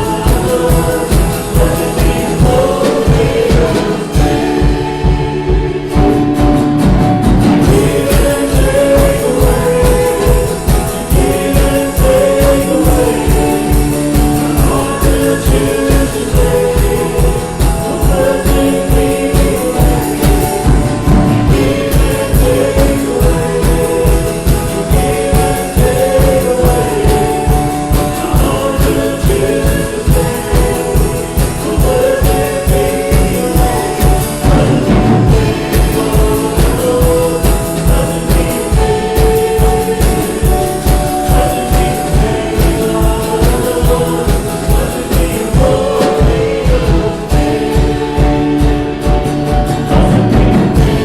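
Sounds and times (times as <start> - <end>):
worship music with singers and band: 0.0 - 51.0.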